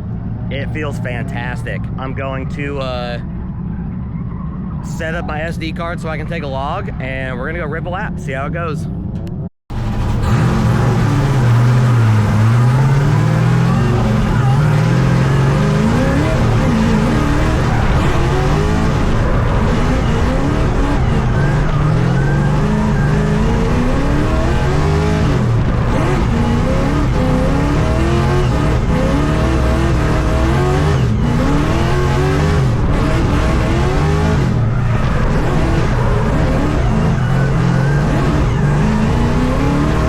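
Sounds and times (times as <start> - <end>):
car engine revving: 0.0 - 40.0
tire squeal: 3.3 - 5.2, 9.8 - 40.0.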